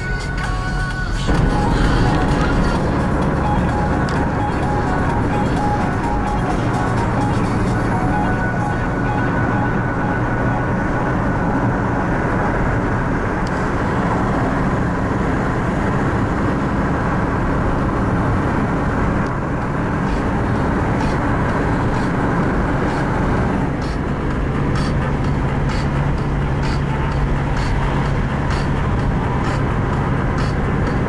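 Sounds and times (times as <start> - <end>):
car road and engine noise: 0.0 - 31.0
low hum: 1.1 - 31.0.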